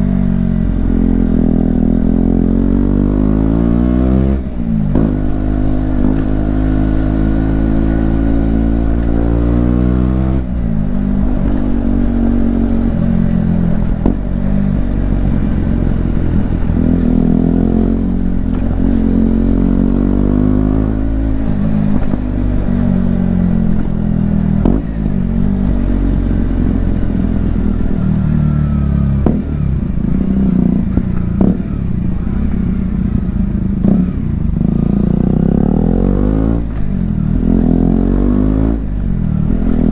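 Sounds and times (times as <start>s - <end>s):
muffled motorcycle engine revving: 0.0s - 39.9s.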